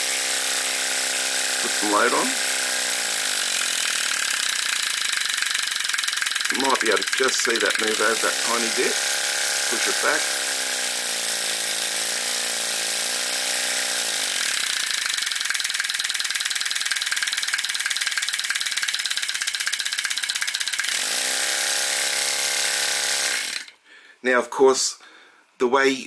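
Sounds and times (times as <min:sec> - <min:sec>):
rapid even ticking: 0:01.4 - 0:23.7.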